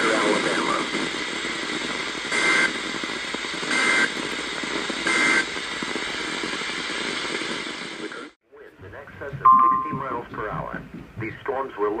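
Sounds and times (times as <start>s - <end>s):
radio static: 0.0s - 12.0s.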